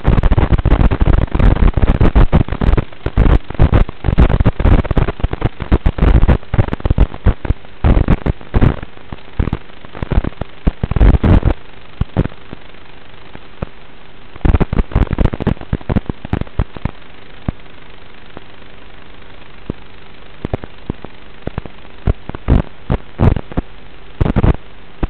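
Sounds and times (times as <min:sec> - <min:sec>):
crackling radio static: 0:00.0 - 0:25.0
faint steady hum: 0:00.0 - 0:25.0.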